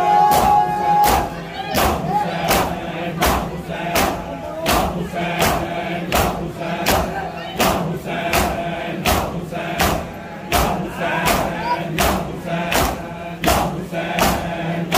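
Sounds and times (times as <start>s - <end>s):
men's voices chanting: 0.0s - 14.9s
men slapping chests in unison: 0.3s - 14.9s.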